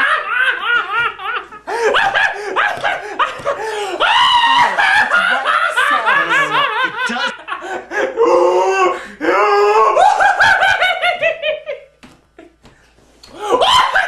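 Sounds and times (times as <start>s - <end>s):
man laughing hysterically: 0.0s - 8.9s, 9.6s - 11.9s, 13.4s - 14.0s.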